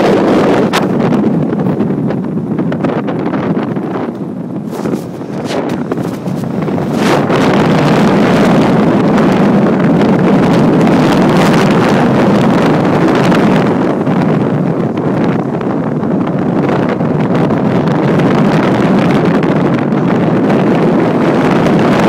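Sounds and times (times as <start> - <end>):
road rush: 0.0 - 22.0
wind rushing over microphone: 0.0 - 22.0.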